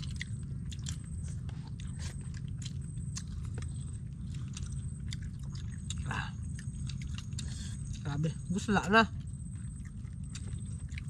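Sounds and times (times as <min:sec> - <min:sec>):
chewing and crunching food: 0:00.0 - 0:11.0
low rumble: 0:00.0 - 0:11.0.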